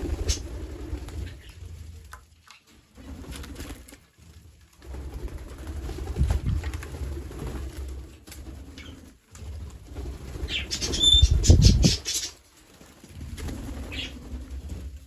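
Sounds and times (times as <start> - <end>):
parrots flapping wings: 0.0 - 15.0.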